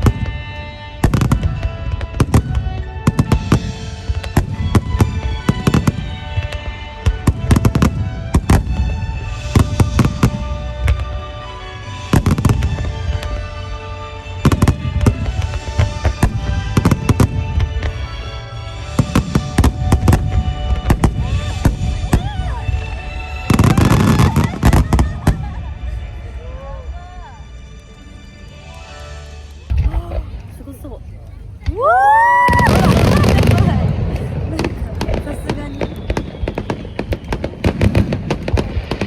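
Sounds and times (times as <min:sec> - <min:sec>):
music playing: 0:00.0 - 0:24.7, 0:25.8 - 0:37.8
fireworks cracking and booming: 0:00.0 - 0:25.7, 0:29.7 - 0:39.0.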